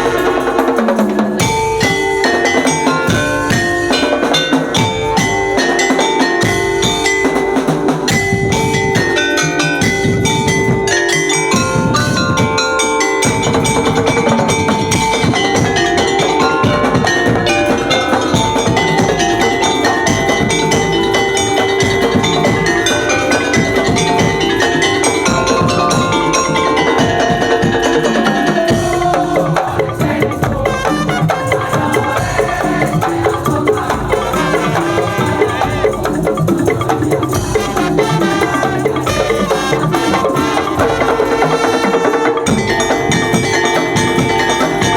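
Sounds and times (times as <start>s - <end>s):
drum beats: 0.0s - 44.9s
pitched percussion ensemble music: 0.0s - 44.9s
wood-block beats: 0.0s - 44.9s.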